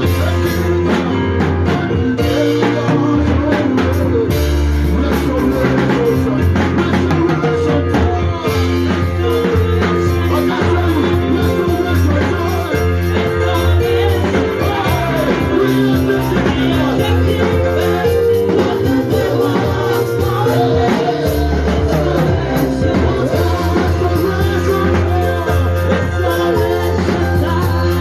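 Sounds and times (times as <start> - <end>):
sustained bass and chords: 0.0 - 28.0
voices singing: 0.0 - 28.0.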